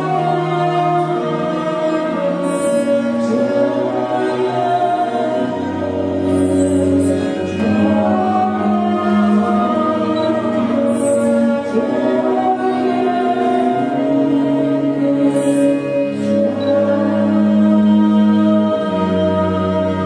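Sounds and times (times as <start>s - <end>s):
choir singing: 0.0s - 20.0s
orchestra strings: 0.0s - 20.0s.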